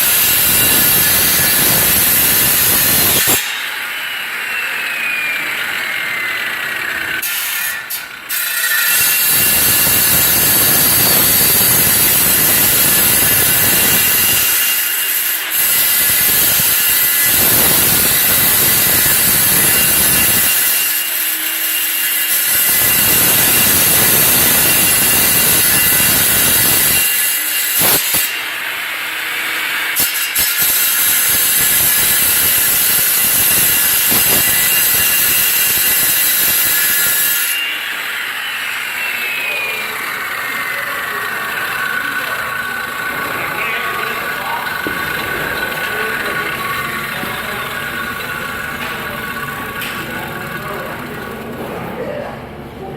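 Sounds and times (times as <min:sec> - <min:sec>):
power saw cutting pipe: 0:00.0 - 0:51.9.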